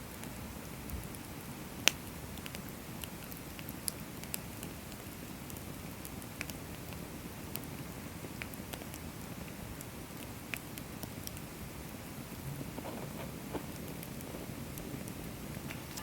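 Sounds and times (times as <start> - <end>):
firewood crackling and popping: 0.1 - 16.0.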